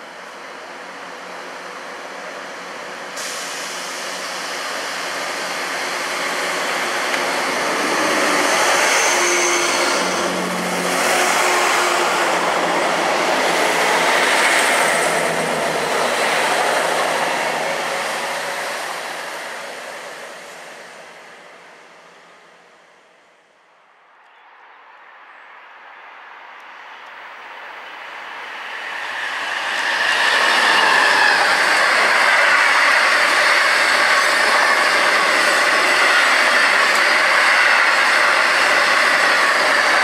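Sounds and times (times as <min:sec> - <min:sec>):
diesel train passing: 0:00.0 - 0:23.6, 0:26.8 - 0:40.0.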